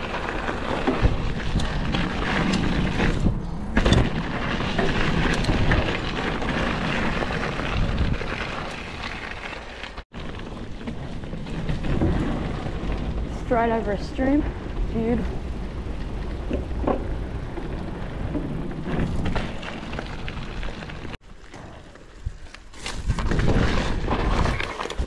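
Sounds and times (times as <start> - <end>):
bike knocking over bumps: 0.0 - 9.2, 10.2 - 21.2
wind rumbling on microphone: 0.0 - 9.4, 10.1 - 25.0
tyres rolling over dirt: 0.0 - 25.0.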